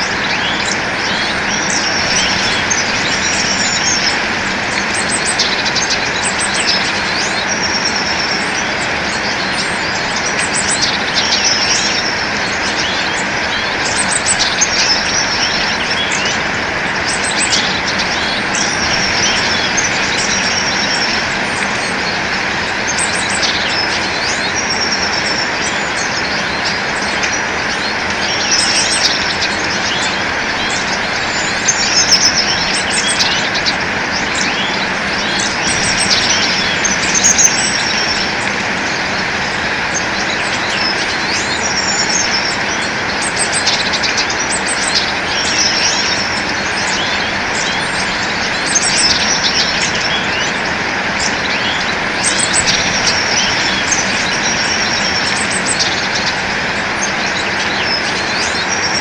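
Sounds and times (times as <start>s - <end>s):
birds chirping and calling: 0.0s - 59.0s
steady background noise: 0.0s - 59.0s.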